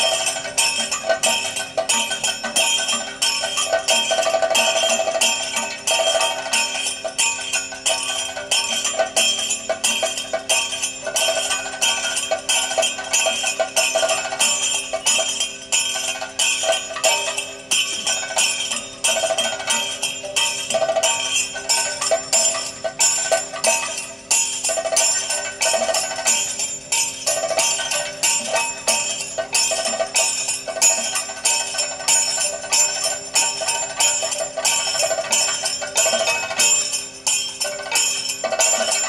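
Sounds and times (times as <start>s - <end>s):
small hand cymbals jingling: 0.0s - 39.0s.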